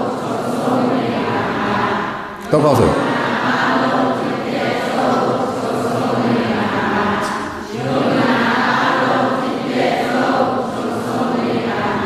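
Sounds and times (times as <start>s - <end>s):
group chanting in unison: 0.0s - 12.0s.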